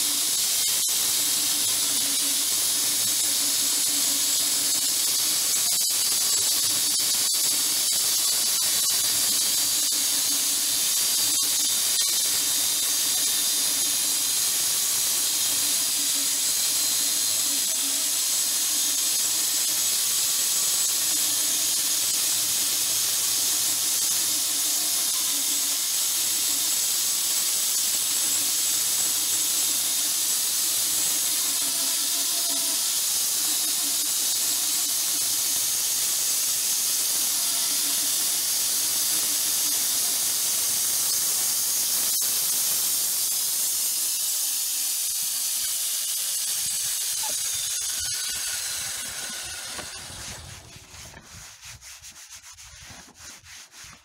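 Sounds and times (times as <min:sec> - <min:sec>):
band saw blade cutting wood: 0:00.0 - 0:54.0.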